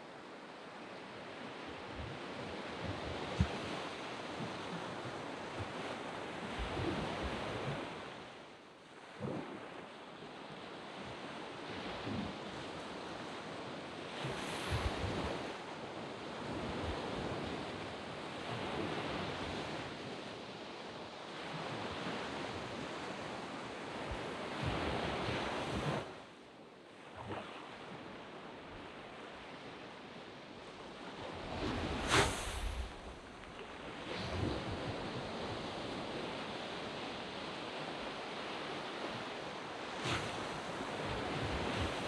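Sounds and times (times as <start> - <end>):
waves breaking on a beach: 0.0 - 42.0.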